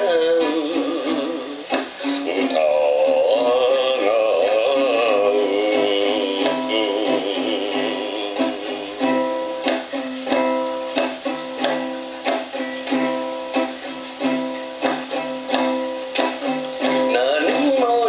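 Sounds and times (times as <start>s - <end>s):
slow plucked-string instrument: 0.0s - 18.0s.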